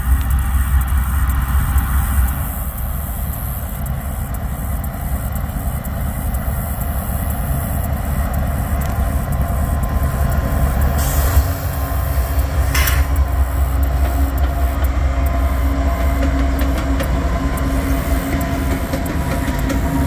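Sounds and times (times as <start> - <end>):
diesel locomotive engine rumble: 0.0 - 20.0.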